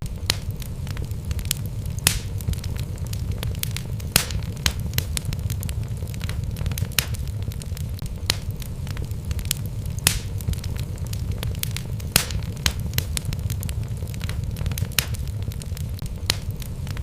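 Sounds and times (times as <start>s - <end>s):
fire flames rumbling: 0.0s - 17.0s
wood fire crackling and popping: 0.0s - 17.0s.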